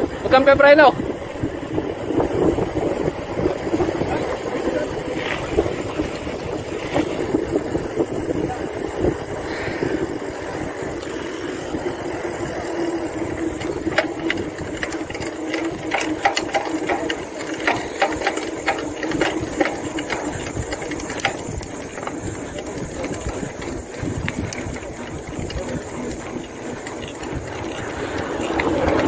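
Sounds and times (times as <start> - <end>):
motorcycle engine running: 0.0 - 29.0
sharp clicks and rattles: 0.0 - 29.0.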